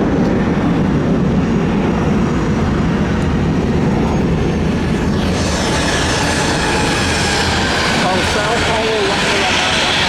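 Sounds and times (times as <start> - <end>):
jet engine rumble: 0.0 - 10.0
jet engine whine: 0.0 - 10.0.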